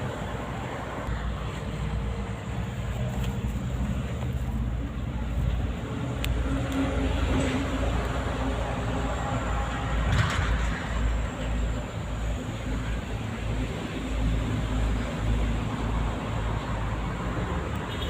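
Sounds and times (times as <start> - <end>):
traffic rumble over bridge: 0.0 - 18.0.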